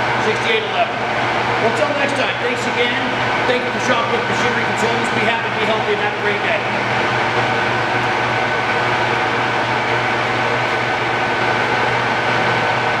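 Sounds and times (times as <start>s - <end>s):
high whine: 0.0s - 13.0s
lathe running: 0.0s - 13.0s.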